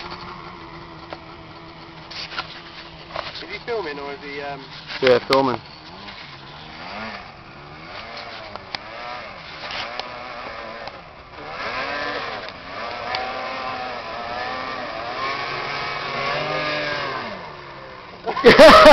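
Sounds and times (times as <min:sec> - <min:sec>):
quad bike engine revving: 0:00.0 - 0:18.9.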